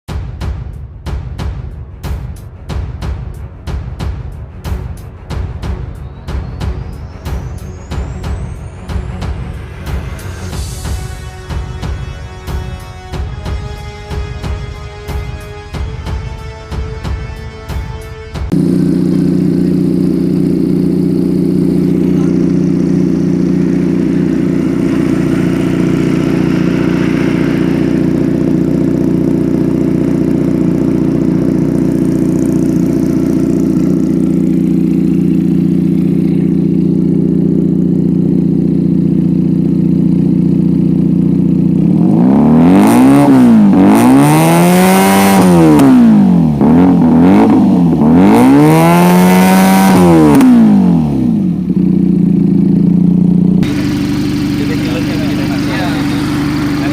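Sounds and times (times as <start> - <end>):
motorcycle engine idling and revving: 0.0 - 56.9.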